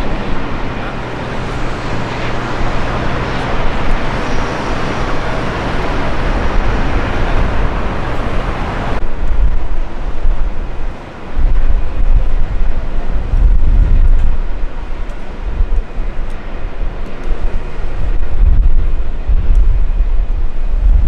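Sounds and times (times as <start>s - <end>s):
jet engines roaring: 0.0s - 20.9s
low engine hum: 0.0s - 21.0s.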